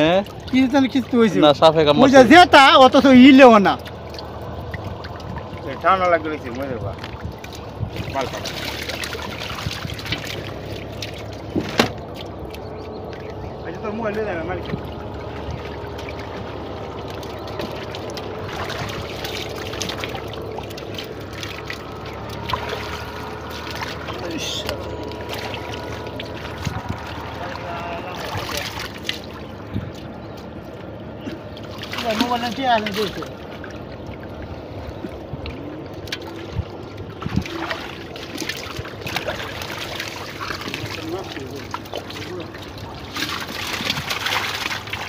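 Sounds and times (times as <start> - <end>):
muddy water sloshing and splashing: 0.0 - 45.0.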